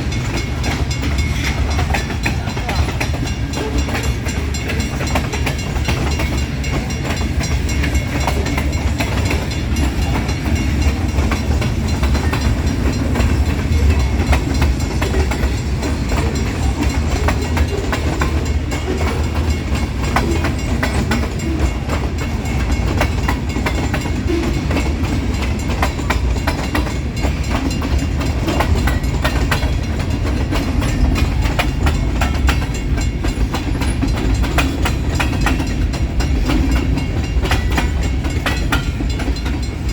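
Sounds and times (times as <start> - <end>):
train rumble: 0.0 - 39.9
train wheels clacking on rails: 0.0 - 39.9.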